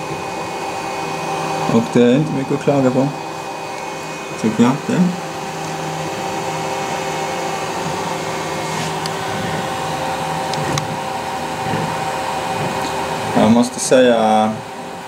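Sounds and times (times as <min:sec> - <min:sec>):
cooling fans whirring: 0:00.0 - 0:15.0
low motor hum: 0:00.0 - 0:15.0.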